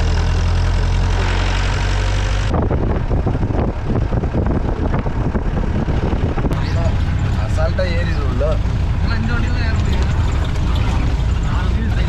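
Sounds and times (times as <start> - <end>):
car engine running: 0.0 - 12.0
knocks and rattles over rough ground: 0.0 - 12.0.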